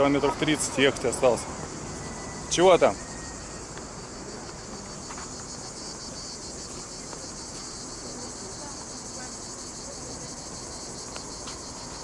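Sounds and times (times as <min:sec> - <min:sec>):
insects shrilling: 0:01.2 - 0:12.0.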